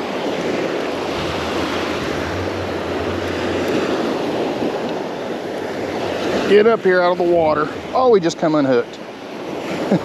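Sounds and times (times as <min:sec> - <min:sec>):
surf washing up sand: 0:00.0 - 0:10.0.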